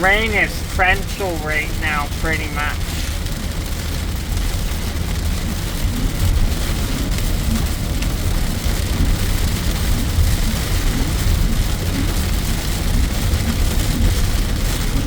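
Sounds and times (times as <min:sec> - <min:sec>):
torrential rain on a car: 0:00.0 - 0:15.0.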